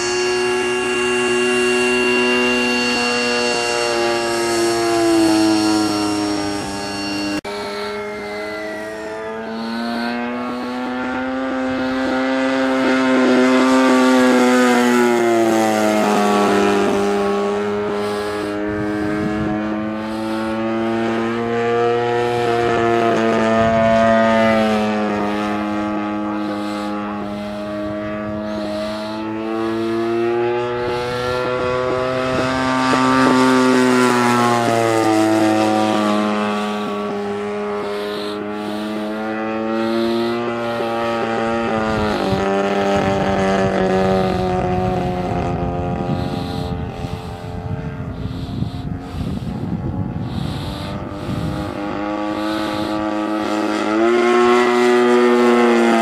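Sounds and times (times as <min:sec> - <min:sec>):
model plane engine and propeller: 0:00.0 - 0:56.0.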